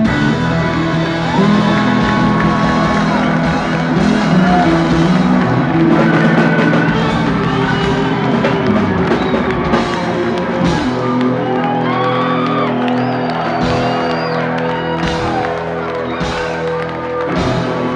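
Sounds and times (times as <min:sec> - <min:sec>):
audience whooping: 0:00.0 - 0:17.9
funk band playing: 0:00.0 - 0:17.9.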